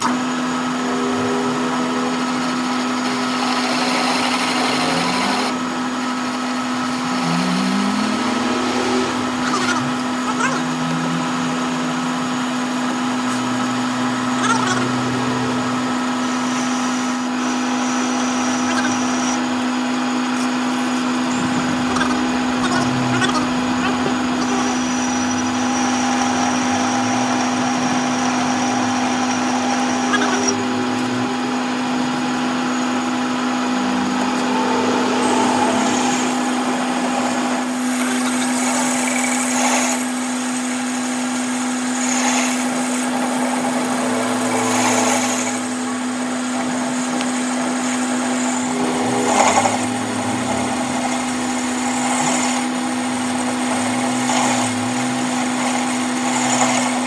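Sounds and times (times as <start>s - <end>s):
power tool motor humming: 0.0s - 57.0s
power tool working on metal: 0.0s - 57.0s.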